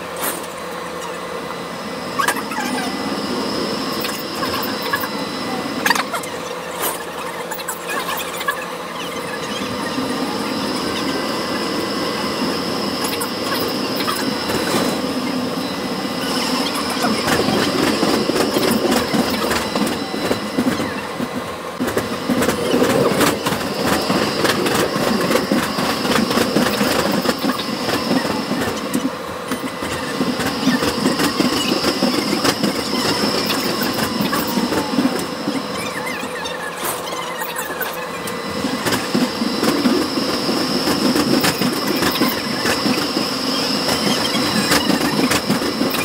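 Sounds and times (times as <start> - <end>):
high whine: 0.0 - 46.0
tram wheels rumbling on rails: 0.0 - 46.0.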